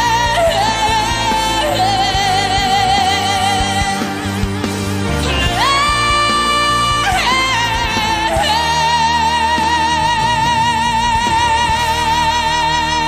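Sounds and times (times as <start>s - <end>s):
band accompaniment: 0.0s - 13.0s.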